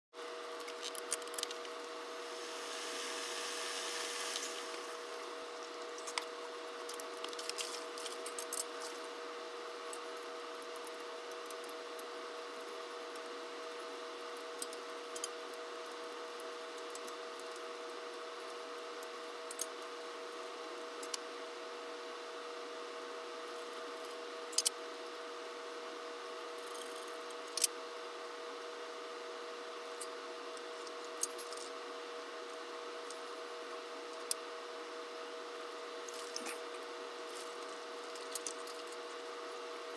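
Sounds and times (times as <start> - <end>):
two-tone steady hum: 0.2 - 39.9.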